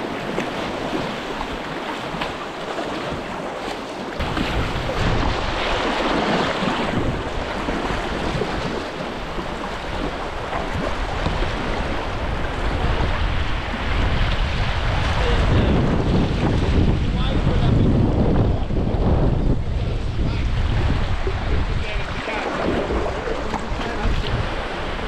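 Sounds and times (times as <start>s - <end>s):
paddle strokes splashing: 0.0s - 17.5s, 19.7s - 25.0s
rushing white water: 0.0s - 25.0s
wind buffeting microphone: 4.2s - 25.0s.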